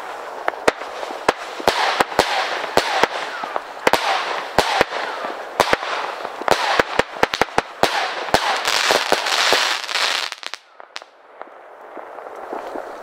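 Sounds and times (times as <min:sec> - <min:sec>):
crackling firework bursts: 0:00.0 - 0:13.0.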